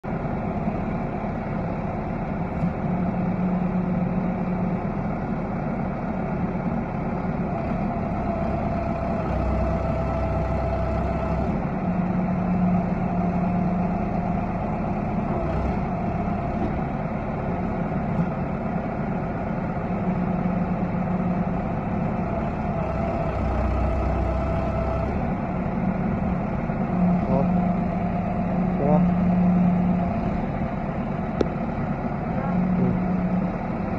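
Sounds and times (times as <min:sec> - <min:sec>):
diesel engine running: 0:00.0 - 0:33.9
hydraulics working: 0:00.1 - 0:33.9.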